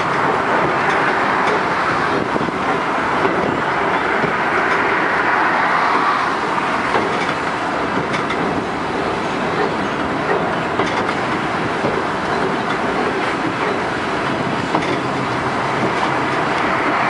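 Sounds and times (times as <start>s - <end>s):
wheels clicking over rail joints: 0.0s - 5.3s, 5.9s - 17.0s
train rolling rumble: 0.0s - 17.0s.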